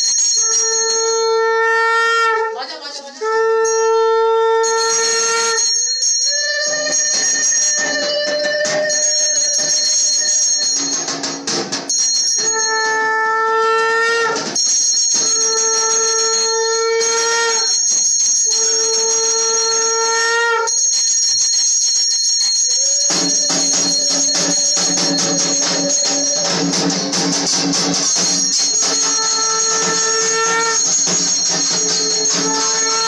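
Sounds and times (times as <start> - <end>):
hand bell ringing: 0.0 - 1.8, 3.6 - 13.3, 14.4 - 33.0
conch shell blasts: 0.1 - 2.6, 3.2 - 21.6, 22.3 - 33.0.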